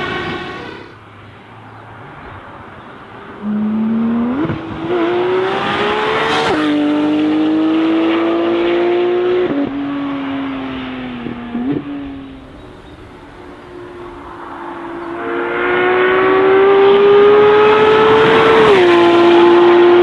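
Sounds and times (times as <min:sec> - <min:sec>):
sports car engine accelerating: 0:00.0 - 0:20.0.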